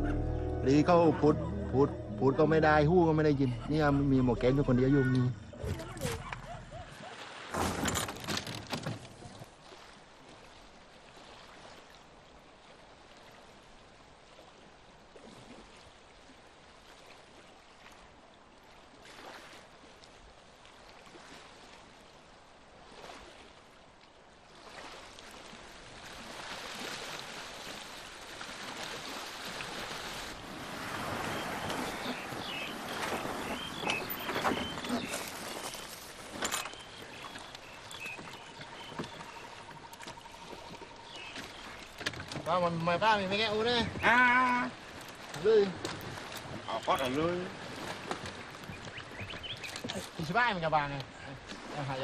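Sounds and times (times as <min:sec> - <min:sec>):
sea waves washing: 0:00.0 - 0:52.0.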